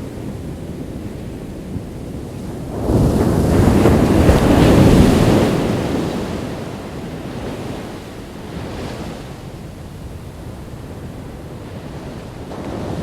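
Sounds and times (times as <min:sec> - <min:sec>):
ocean wave breaking: 0:00.0 - 0:13.0
wind buffeting microphone: 0:00.0 - 0:13.0.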